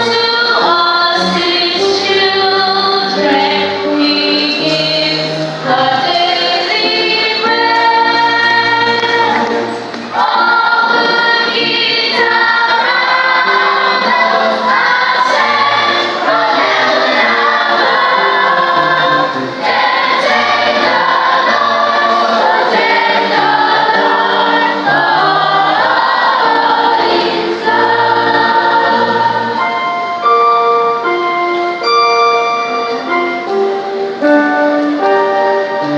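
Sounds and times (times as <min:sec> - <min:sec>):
choir singing gospel: 0:00.0 - 0:31.8
keyboard chords: 0:00.0 - 0:35.9.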